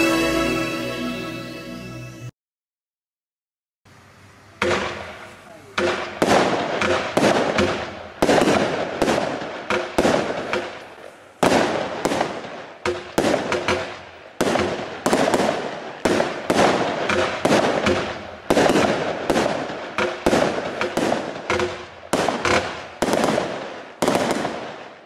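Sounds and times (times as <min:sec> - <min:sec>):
firework hiss: 0:03.9 - 0:24.5
firework bangs: 0:04.6 - 0:25.0.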